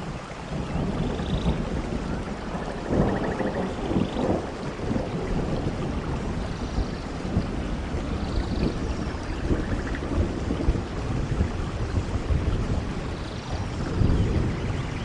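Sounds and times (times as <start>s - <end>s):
low thunder rumble: 0.0s - 15.0s
steady rain: 0.0s - 15.0s.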